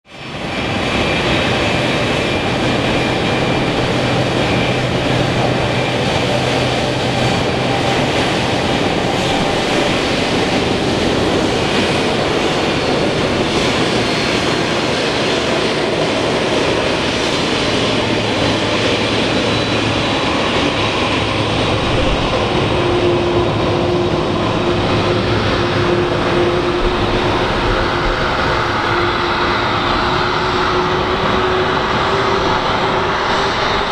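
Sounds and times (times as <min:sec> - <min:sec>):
jet engines rumble and hiss: 0:00.1 - 0:33.9
steady whine: 0:00.1 - 0:33.9.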